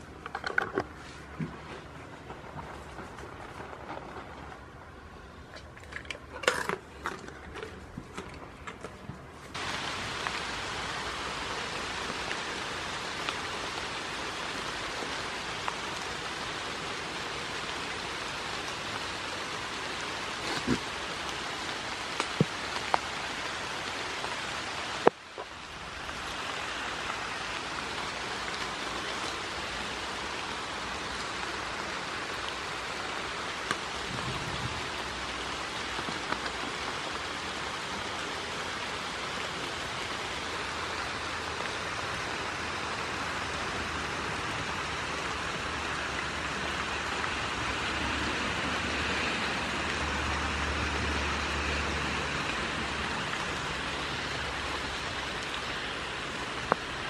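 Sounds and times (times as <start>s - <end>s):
rain falling on grass: 0.0s - 57.0s.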